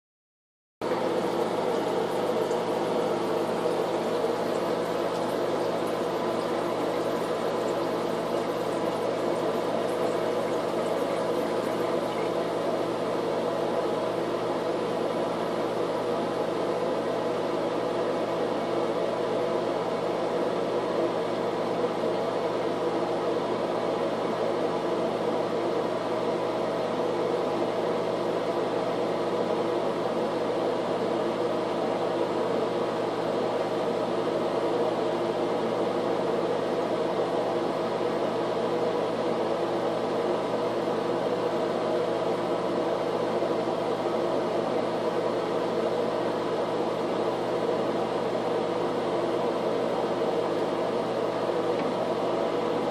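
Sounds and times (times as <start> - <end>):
mechanical whir with low hum: 0.8 - 52.9.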